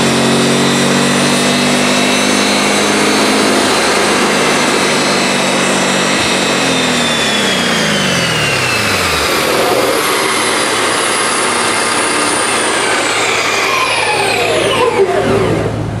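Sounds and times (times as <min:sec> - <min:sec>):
car engine winding down: 0:00.0 - 0:16.0
high whine sliding down: 0:00.0 - 0:16.0.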